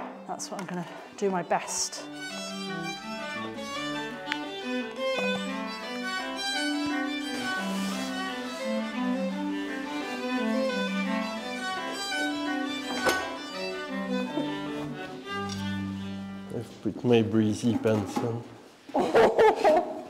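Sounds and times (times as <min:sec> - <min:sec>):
violin and cello music: 0:00.0 - 0:18.4.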